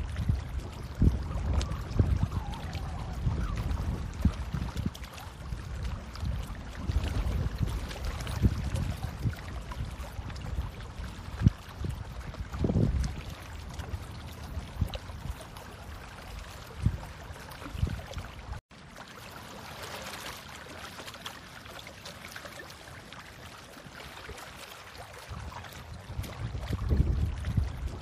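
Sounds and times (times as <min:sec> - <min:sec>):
rushing water at shoreline: 0:00.0 - 0:28.0.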